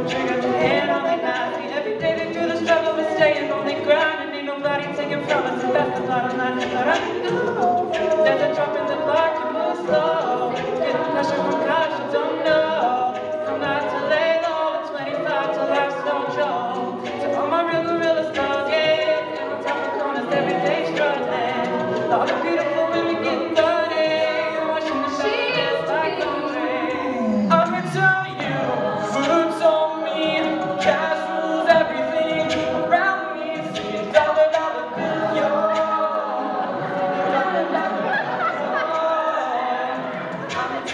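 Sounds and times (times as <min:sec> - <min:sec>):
a cappella group singing: 0:00.0 - 0:40.9.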